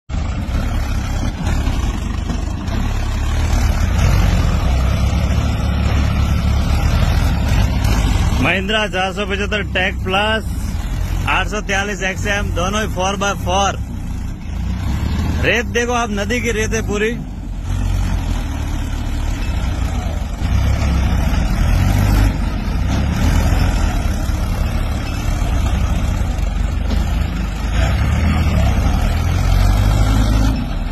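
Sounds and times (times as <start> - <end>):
tractor diesel engine droning: 0.1 - 30.9.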